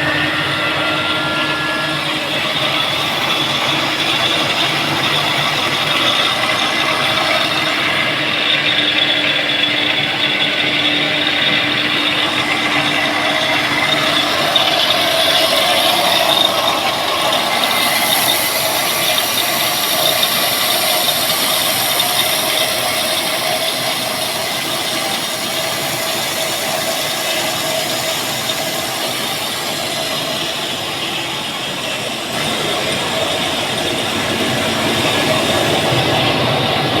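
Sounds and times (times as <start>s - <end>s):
mill machinery clattering: 0.0s - 37.0s.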